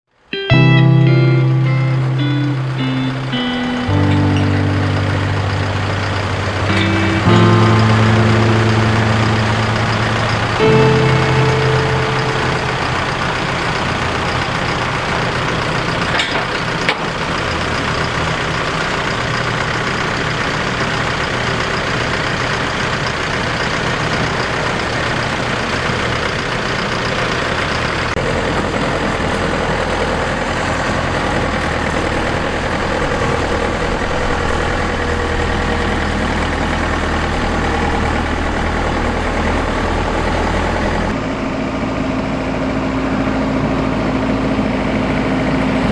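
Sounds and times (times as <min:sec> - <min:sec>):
combine harvester engine drone: 0:00.5 - 0:45.9.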